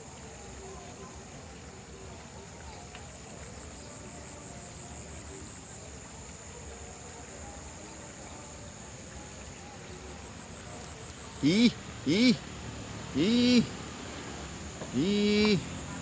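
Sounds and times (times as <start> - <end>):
faint low background noise: 0.0 - 16.0.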